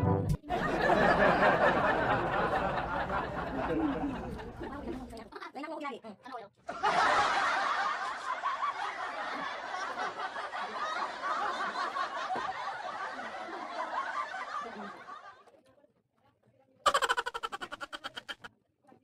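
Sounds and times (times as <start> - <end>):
crowd laughing: 0.4 - 5.2, 6.7 - 15.5, 16.9 - 18.5.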